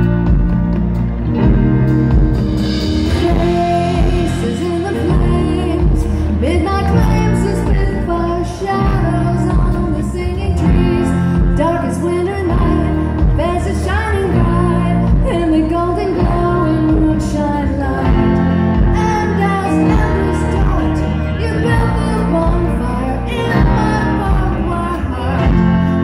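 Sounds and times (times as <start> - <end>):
live band playing: 0.0 - 26.0
woman singing: 3.0 - 26.0.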